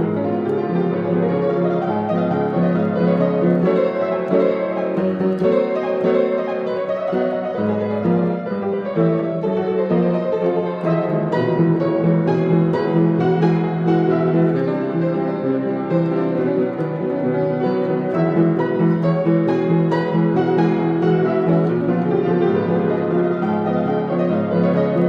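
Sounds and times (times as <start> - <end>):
piano music with held chords: 0.0 - 25.0.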